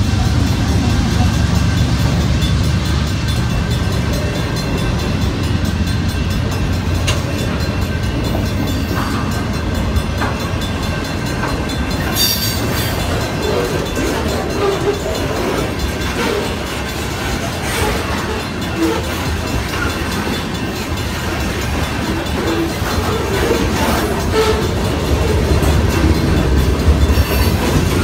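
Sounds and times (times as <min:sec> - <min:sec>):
train cars clanking: 0:00.0 - 0:28.0
train wheels rumbling on rails: 0:00.0 - 0:28.0.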